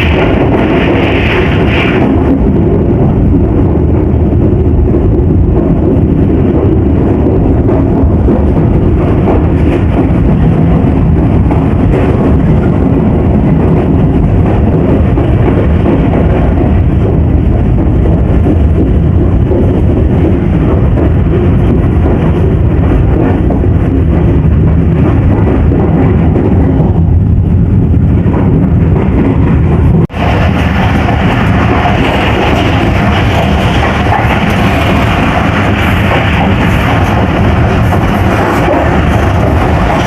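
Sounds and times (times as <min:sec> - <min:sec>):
train wheels rumbling on track: 0:00.0 - 0:40.0.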